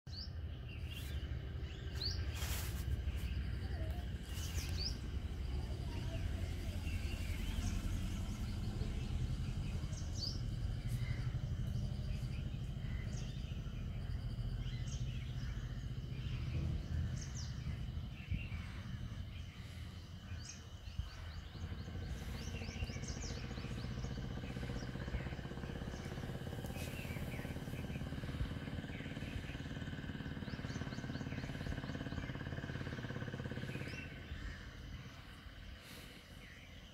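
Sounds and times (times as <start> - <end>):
birds chirping: 0.1 - 36.9
steady low rumble: 0.1 - 36.9.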